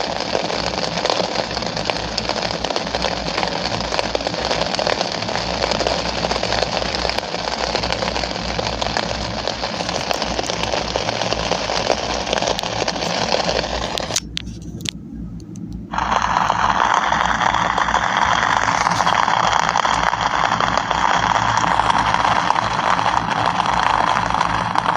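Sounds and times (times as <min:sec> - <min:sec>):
rain hissing: 0:00.0 - 0:14.9, 0:15.8 - 0:24.9
low steady hum: 0:00.0 - 0:24.9.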